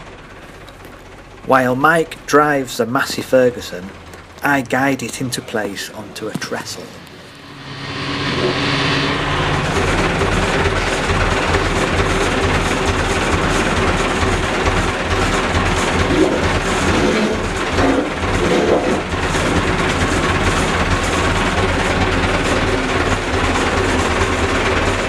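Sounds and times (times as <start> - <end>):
tractor engine running with clatter: 0.0 - 25.0.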